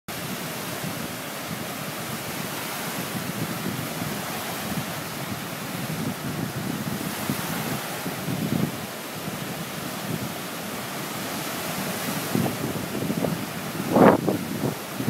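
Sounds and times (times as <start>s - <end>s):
small waves breaking on shore: 0.1s - 15.0s
wind buffeting microphone: 0.1s - 15.0s.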